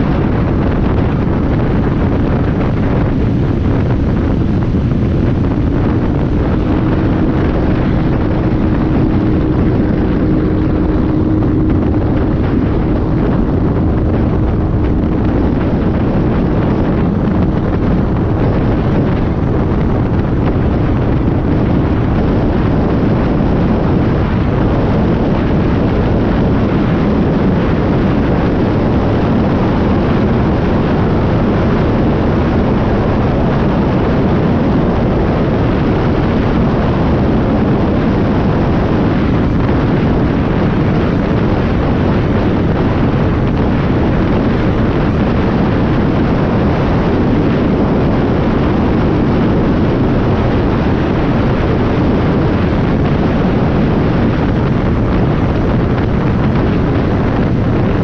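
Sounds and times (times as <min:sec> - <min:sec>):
vehicle engine and tyre noise: 0:00.0 - 0:58.0
wind buffeting microphone: 0:00.0 - 0:58.0.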